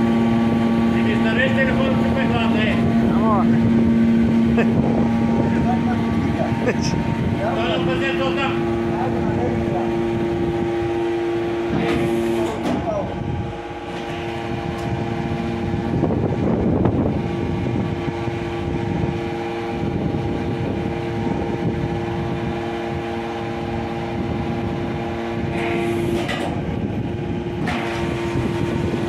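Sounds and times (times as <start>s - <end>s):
hydraulic power unit hum: 0.0s - 29.0s.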